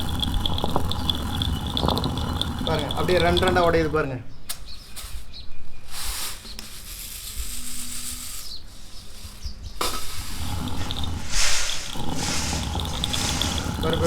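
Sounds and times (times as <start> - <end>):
stone quern grinding grain: 0.0 - 4.0, 6.0 - 14.0.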